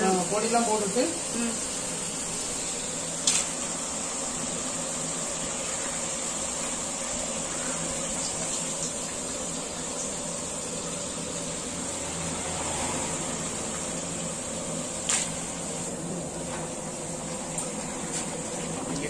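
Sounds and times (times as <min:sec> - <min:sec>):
pot of meat hissing over fire: 0:00.0 - 0:19.0.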